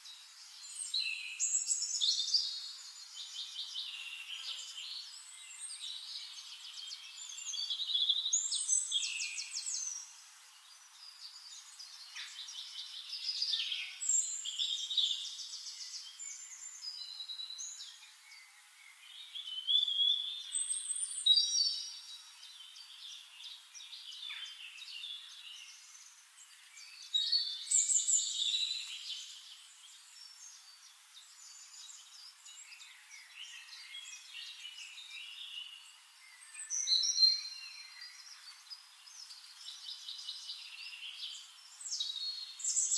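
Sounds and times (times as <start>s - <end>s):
birds singing and chirping: 0.0s - 42.9s.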